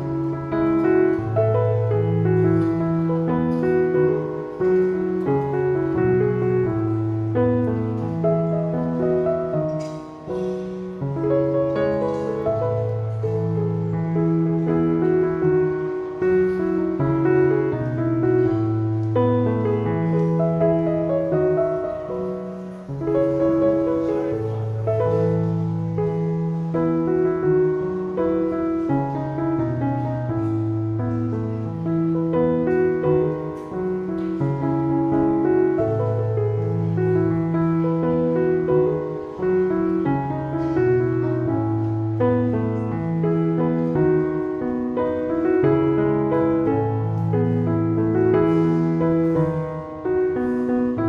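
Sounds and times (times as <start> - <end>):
slow piano music: 0.0 - 51.0.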